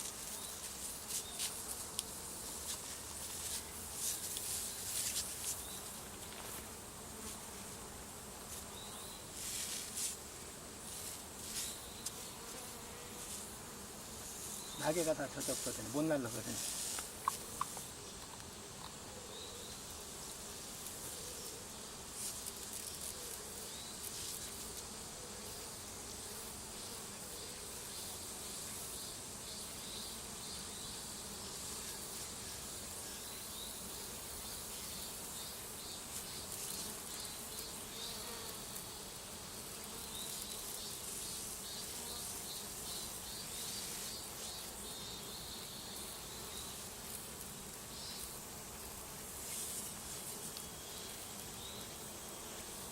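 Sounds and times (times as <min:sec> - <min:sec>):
bee swarm buzzing: 0:00.0 - 0:52.9.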